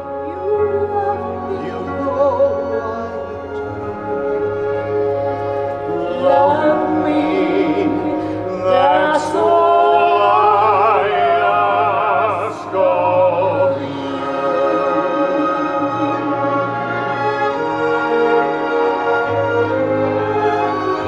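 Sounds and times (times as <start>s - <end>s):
operatic singing: 0.0s - 21.0s
orchestral accompaniment: 0.0s - 21.0s.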